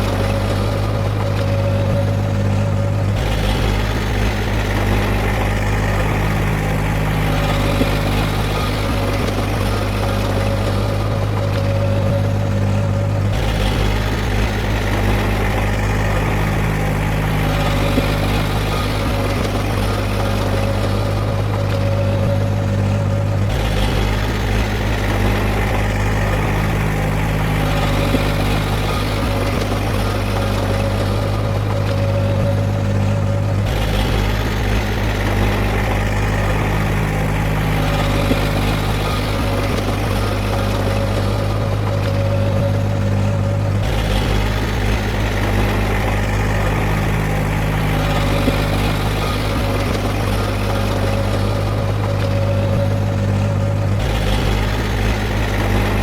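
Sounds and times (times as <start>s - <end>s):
heavy machine engine humming: 0.0s - 56.0s.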